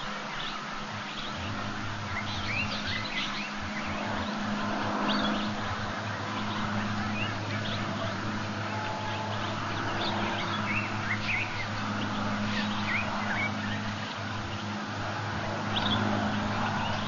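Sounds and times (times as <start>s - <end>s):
low hum: 0.0s - 17.0s
steady hiss: 0.0s - 17.0s.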